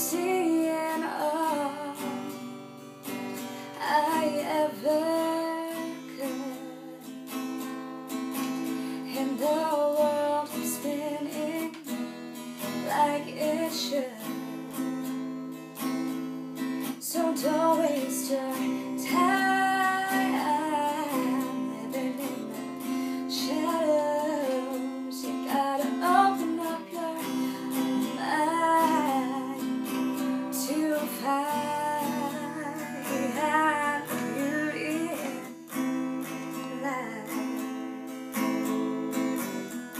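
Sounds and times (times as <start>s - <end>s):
woman singing: 0.0s - 15.3s, 16.6s - 39.8s
acoustic guitar strumming: 0.0s - 39.9s.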